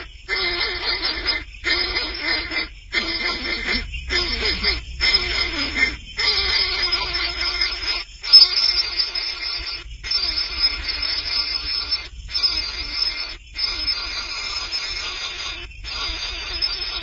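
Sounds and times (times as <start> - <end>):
young bird raspy begging calls: 0.0 - 17.0.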